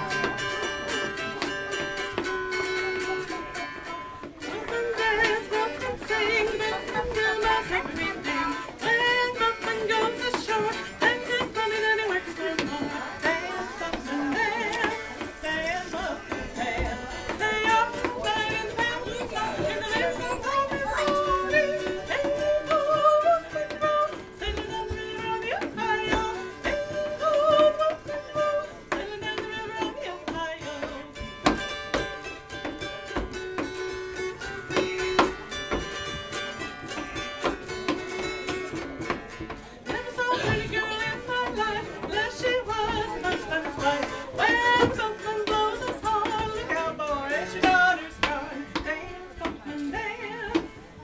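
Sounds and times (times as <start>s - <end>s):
woman singing: 0.0s - 51.0s.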